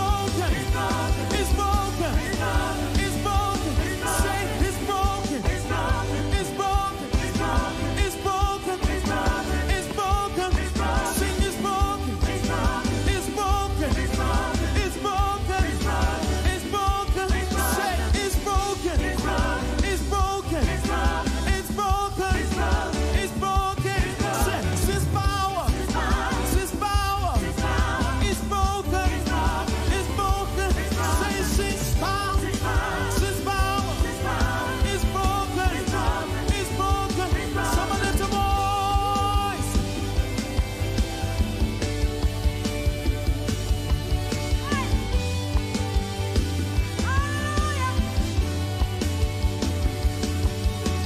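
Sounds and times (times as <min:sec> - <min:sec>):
group singing gospel song: 0:00.0 - 0:43.0
band with steady beat: 0:00.0 - 0:51.0.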